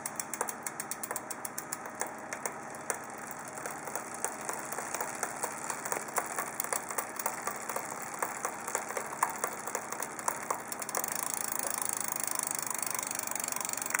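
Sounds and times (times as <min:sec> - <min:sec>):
bike drivetrain clicking knock: 0:00.0 - 0:14.0.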